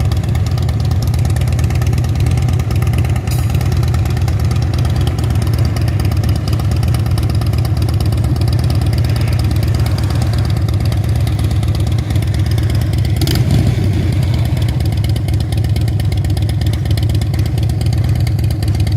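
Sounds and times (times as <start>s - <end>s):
freight train rumbling past: 0.0s - 18.8s
wheels clattering on rails: 0.0s - 18.9s.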